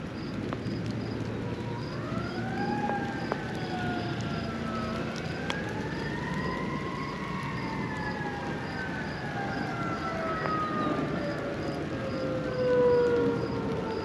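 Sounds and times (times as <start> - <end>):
siren wailing: 1.4 - 14.0.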